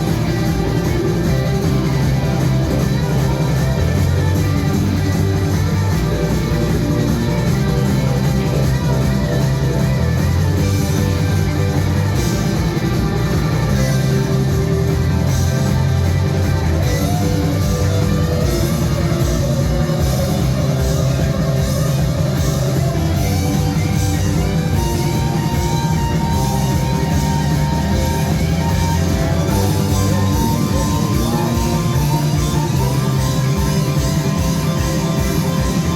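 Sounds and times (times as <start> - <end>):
loud rock music: 0.0 - 35.9.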